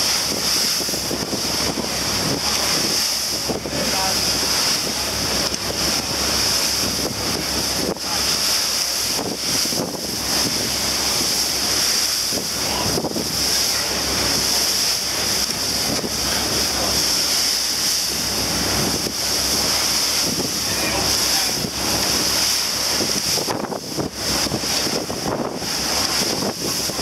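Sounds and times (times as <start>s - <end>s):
rushing water and spray: 0.0s - 27.0s
wind buffeting microphone: 0.0s - 27.0s.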